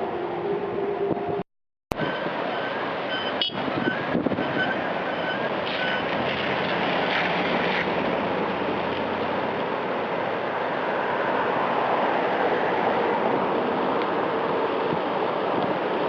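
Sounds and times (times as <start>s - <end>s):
floodwater rushing: 2.0s - 16.0s.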